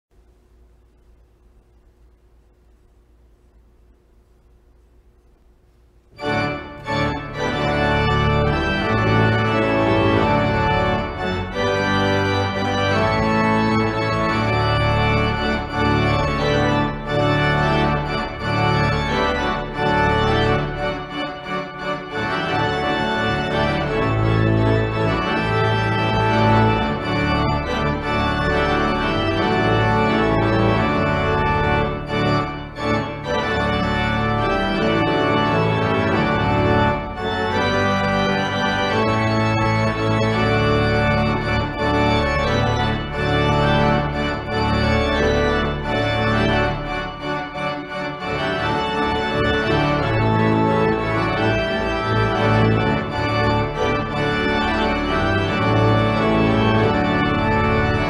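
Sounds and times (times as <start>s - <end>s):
organ playing sustained chords: 6.1s - 58.0s.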